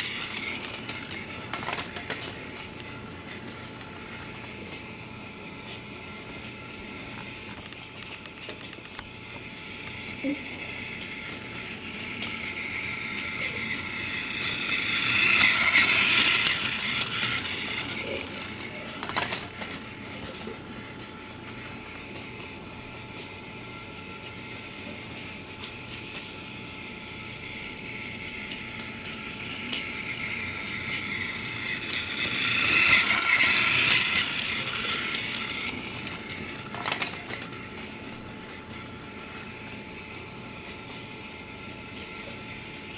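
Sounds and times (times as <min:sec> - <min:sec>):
toy train motor whirring: 0:00.0 - 0:42.9.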